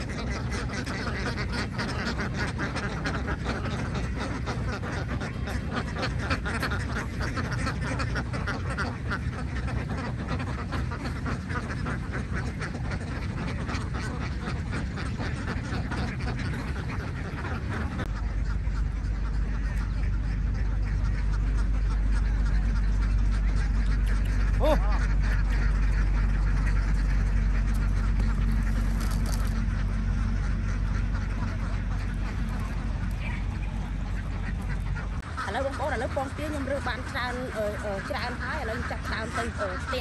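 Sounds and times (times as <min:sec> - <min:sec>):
ducks quacking: 0:00.0 - 0:40.0
low rumble: 0:00.0 - 0:40.0.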